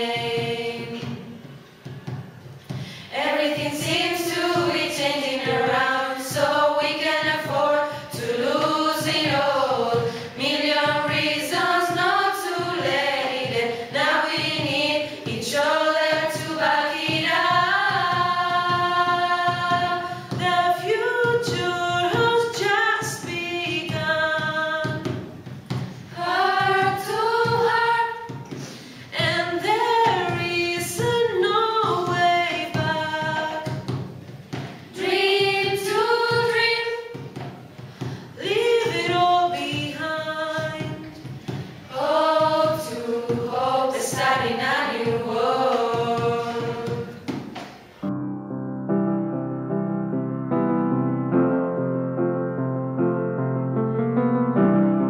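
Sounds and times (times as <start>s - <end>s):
choir singing pop song: 0.0s - 1.6s, 3.0s - 25.2s, 26.1s - 37.5s, 38.3s - 47.7s.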